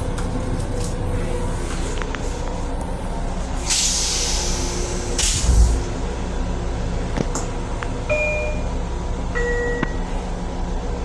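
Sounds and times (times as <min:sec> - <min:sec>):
ventilation and electrical hum: 0:00.0 - 0:11.0.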